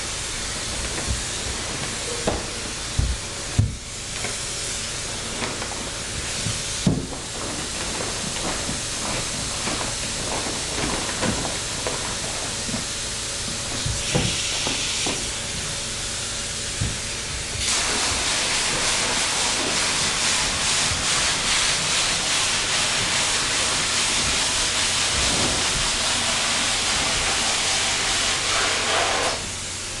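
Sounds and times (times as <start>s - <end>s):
spray foam gun hissing: 0.0s - 30.0s.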